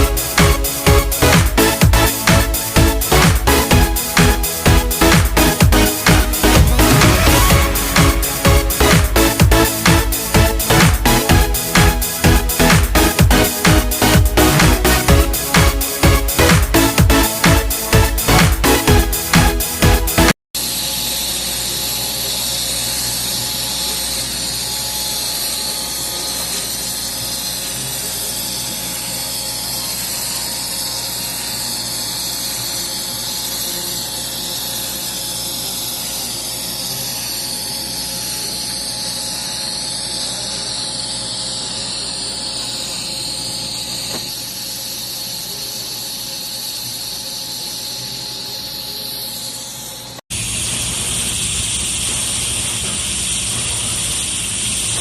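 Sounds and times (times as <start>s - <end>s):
welding arc crackling hiss: 0.0s - 55.0s.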